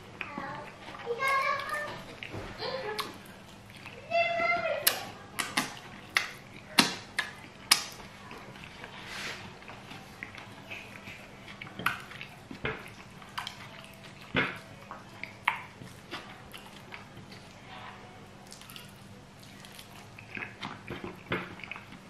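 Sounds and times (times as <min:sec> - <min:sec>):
wet chewing: 0:00.0 - 0:22.0
lip smacks: 0:00.2 - 0:04.0, 0:04.8 - 0:17.6, 0:18.4 - 0:22.0.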